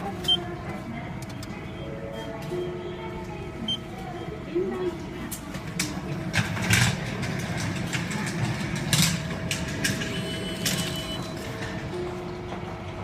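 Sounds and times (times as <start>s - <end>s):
machine mechanical hum: 0.0s - 13.0s.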